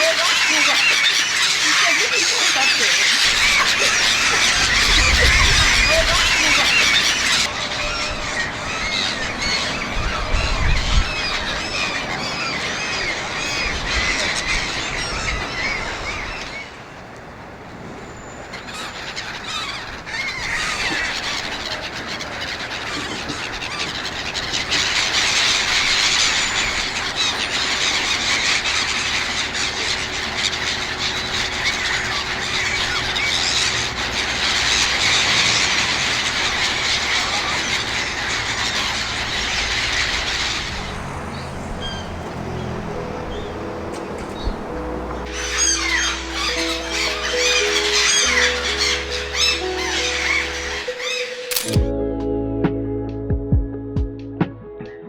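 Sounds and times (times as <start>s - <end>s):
gulls calling: 0.0s - 52.8s.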